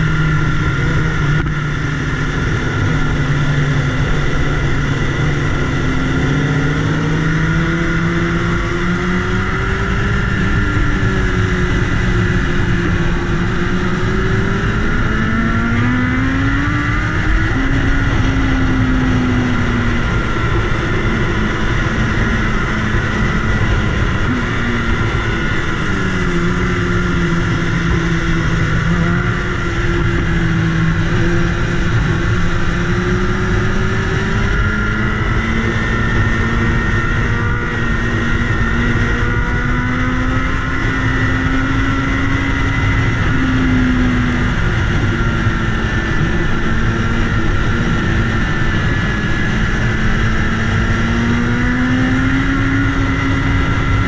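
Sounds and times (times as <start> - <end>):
motorcycle engine revving: 0.0 - 54.0
wind rushing over microphone: 0.0 - 54.0.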